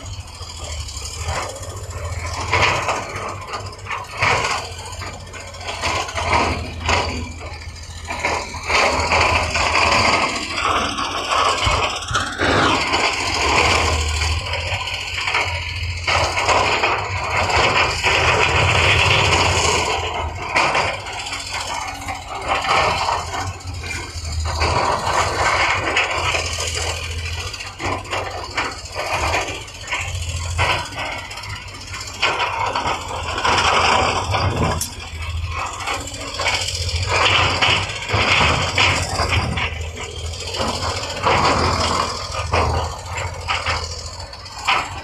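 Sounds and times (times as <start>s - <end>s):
diesel engine drone: 0.0s - 45.0s
knocks and clanks: 0.0s - 45.0s.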